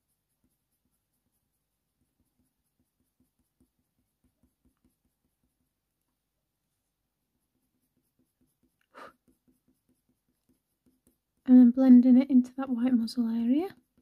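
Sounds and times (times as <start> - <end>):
pencil strokes on paper: 0.0 - 14.0.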